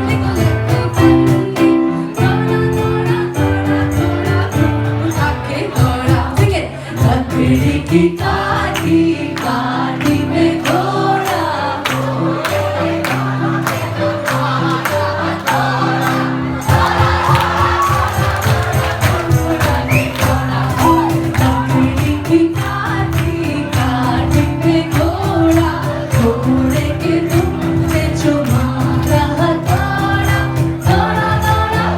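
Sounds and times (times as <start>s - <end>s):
retro film song with singer: 0.0s - 31.9s.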